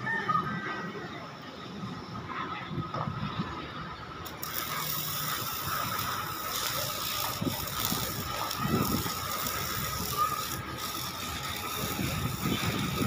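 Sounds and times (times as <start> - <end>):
crane mechanical noise: 0.0 - 13.0.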